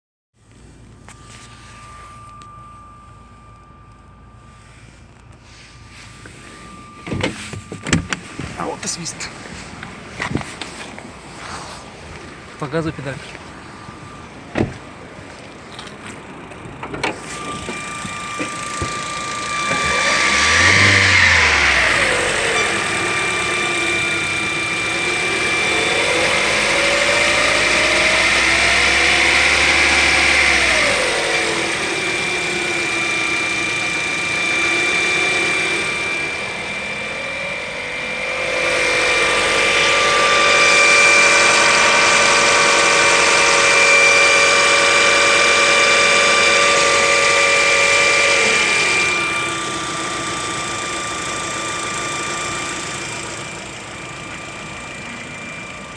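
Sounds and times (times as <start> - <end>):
steady high whistle: 0.5 - 10.2, 10.8 - 15.6, 17.1 - 55.9
car engine revving: 0.5 - 55.9.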